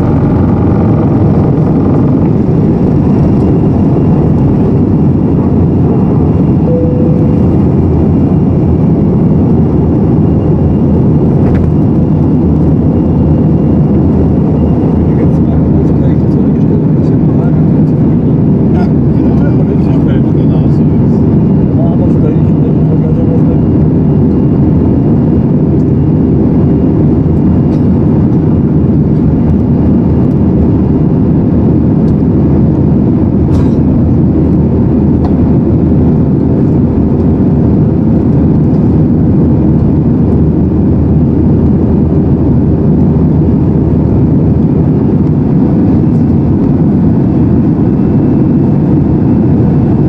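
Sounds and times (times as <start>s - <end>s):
airplane cabin engine rush: 0.0s - 50.0s
faint hum: 0.0s - 50.0s.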